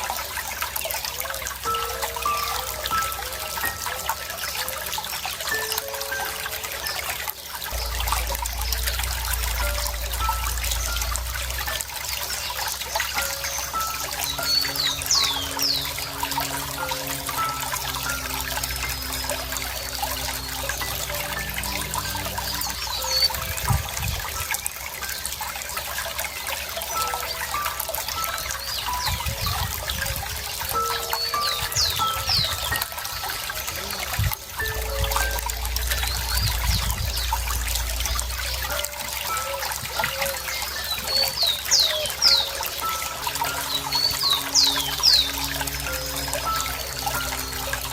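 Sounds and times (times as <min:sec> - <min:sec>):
water trickling and splashing: 0:00.0 - 0:47.9
steady low tones: 0:05.5 - 0:25.0, 0:26.8 - 0:47.9.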